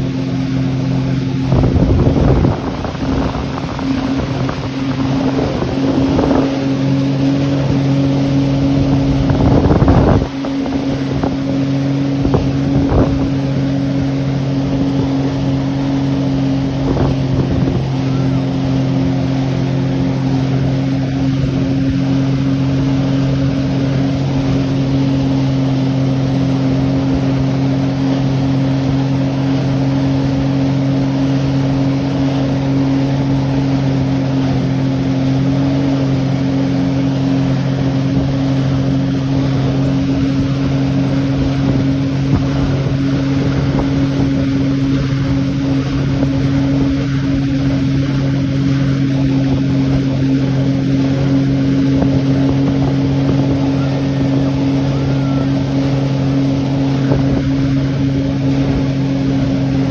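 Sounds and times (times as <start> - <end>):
motorboat engine running: 0.0 - 59.9
water noise: 0.0 - 59.9
wind: 0.0 - 59.9.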